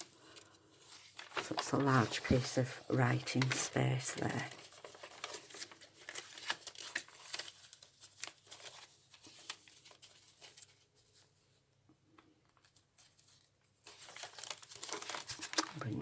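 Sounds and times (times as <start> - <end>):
paper and card rustling: 0.0 - 11.6, 12.4 - 16.0.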